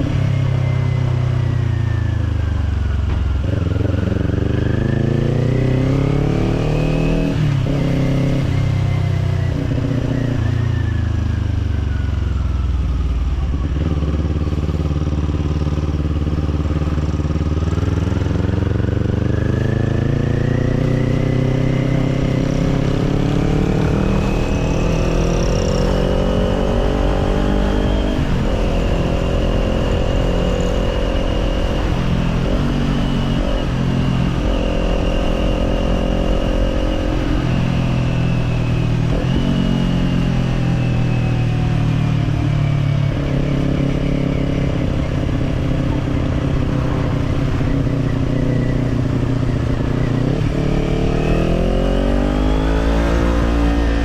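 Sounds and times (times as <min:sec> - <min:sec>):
motorcycle engine revving: 0:02.8 - 0:12.0, 0:12.9 - 0:54.0.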